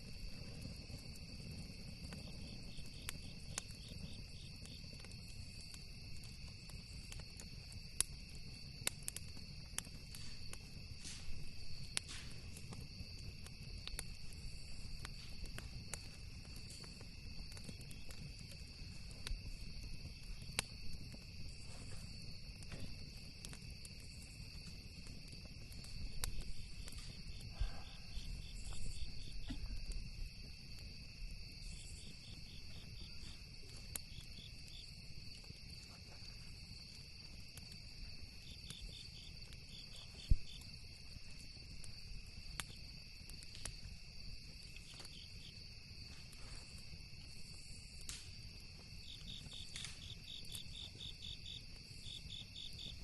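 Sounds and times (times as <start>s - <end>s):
campfire crackling: 0.0s - 53.0s
crickets chirping: 0.0s - 53.0s.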